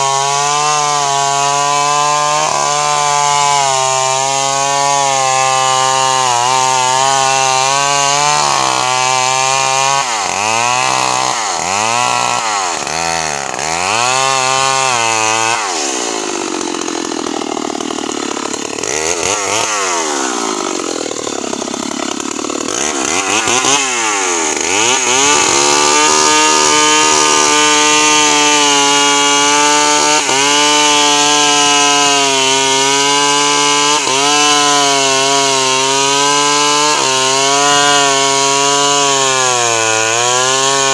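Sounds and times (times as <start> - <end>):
chainsaw cutting and revving: 0.0 - 40.9.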